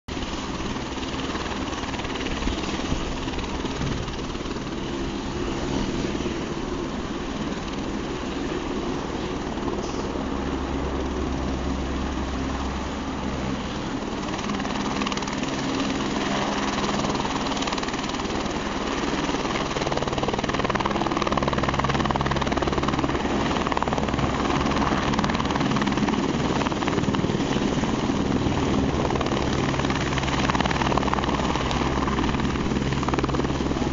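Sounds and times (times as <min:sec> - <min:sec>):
helicopter rotor and turbine: 0:00.1 - 0:33.9.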